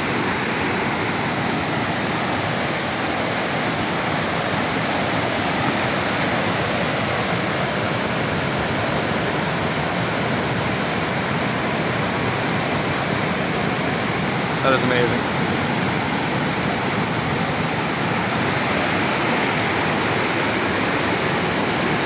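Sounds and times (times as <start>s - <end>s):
whitewater rushing over boulders: 0.0s - 22.0s.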